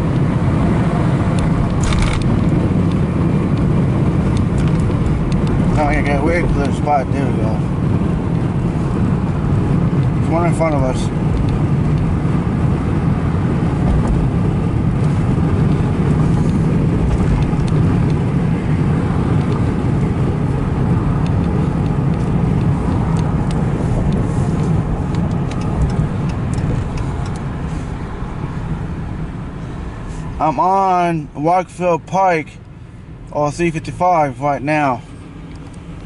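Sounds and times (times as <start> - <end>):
road and engine noise in car: 0.0 - 36.0.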